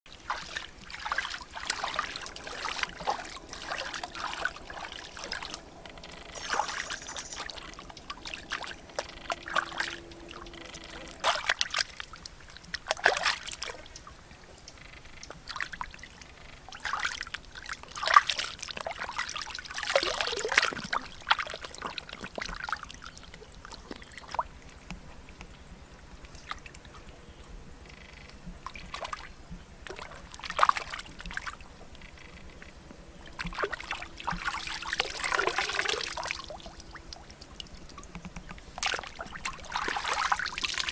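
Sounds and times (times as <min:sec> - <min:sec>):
water splashing and sloshing: 0:00.1 - 0:27.2, 0:27.8 - 0:40.9.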